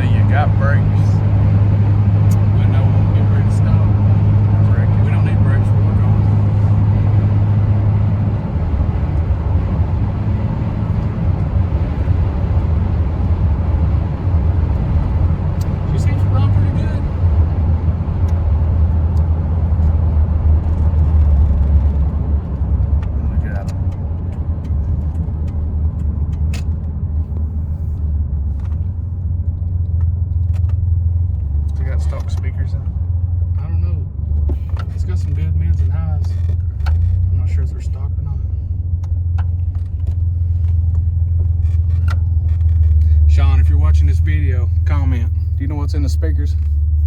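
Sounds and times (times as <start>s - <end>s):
pickup truck engine droning: 0.0s - 47.0s
road noise inside cab: 0.0s - 47.0s.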